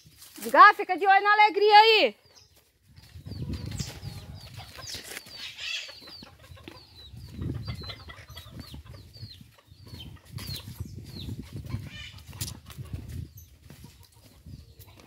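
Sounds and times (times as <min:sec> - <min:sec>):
footsteps rustling and scuffing: 0:00.0 - 0:01.2, 0:02.4 - 0:08.8, 0:09.4 - 0:15.0
birds chirping: 0:00.0 - 0:15.0.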